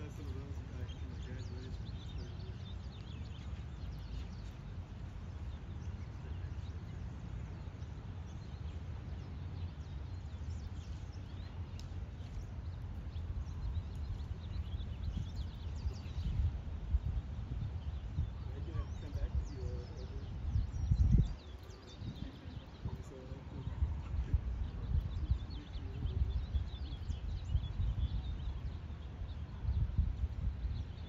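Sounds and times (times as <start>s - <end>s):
low outdoor rumble: 0.0s - 31.0s
small birds chirping: 0.0s - 31.0s.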